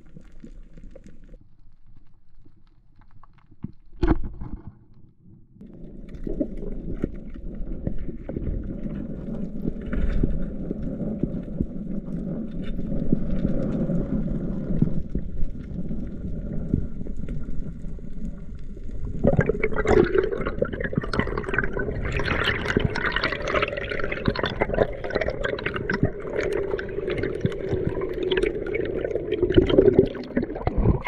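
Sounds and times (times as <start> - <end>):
underwater clicks and bubbling: 0.0 - 31.0
muffled underwater churning: 5.6 - 31.0.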